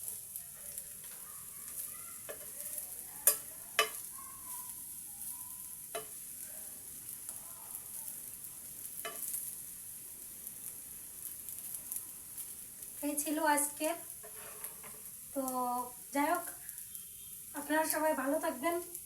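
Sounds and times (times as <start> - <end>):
fish sizzling in frying pan: 0.0 - 19.0.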